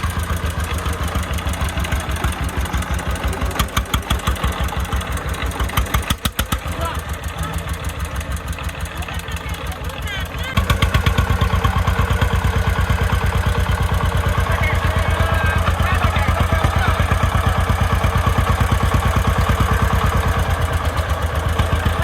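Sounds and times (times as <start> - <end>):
diesel engine thudding: 0.0 - 22.0.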